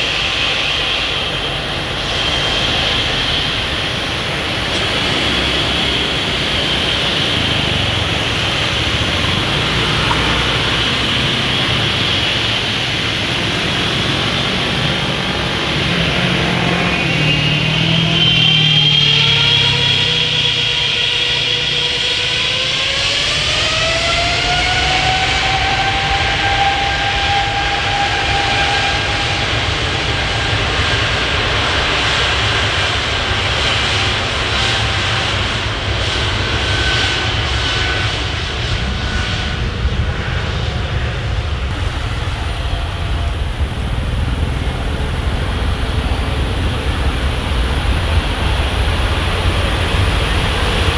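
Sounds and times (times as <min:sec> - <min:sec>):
heavy engine rumble: 0:00.0 - 0:23.6, 0:28.7 - 0:50.9
jet engine whine: 0:00.0 - 0:50.9.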